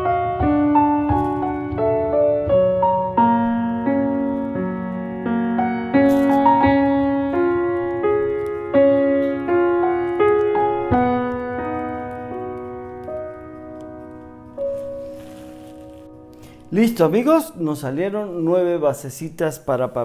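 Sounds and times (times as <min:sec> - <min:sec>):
slow piano melody: 0:00.0 - 0:19.2.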